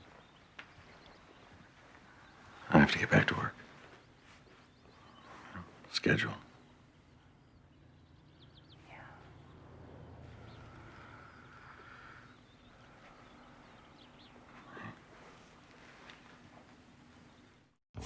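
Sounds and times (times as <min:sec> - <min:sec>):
faint outdoor ambience: 0:00.0 - 0:17.8.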